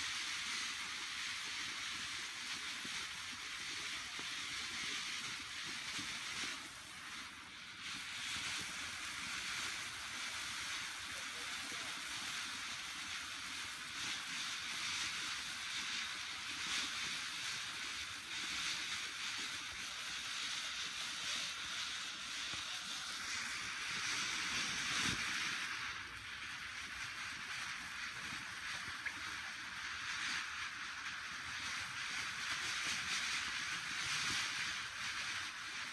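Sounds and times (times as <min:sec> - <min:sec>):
firework fountain hissing: 0:00.0 - 0:35.9.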